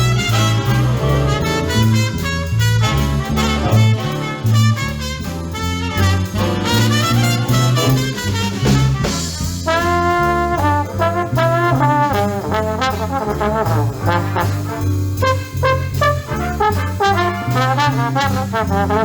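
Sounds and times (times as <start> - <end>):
swing big band playing: 0.0 - 19.0
trombones: 0.0 - 19.0
walking bass line: 0.0 - 19.0.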